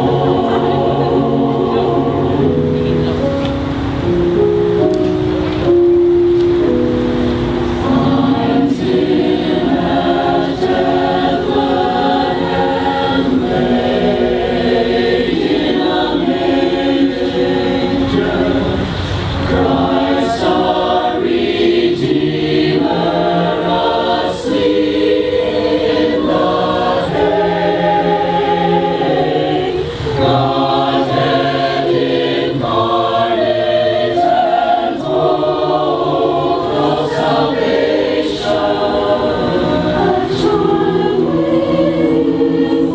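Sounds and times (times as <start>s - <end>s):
mixed choir singing: 0.0s - 5.8s, 6.6s - 42.9s.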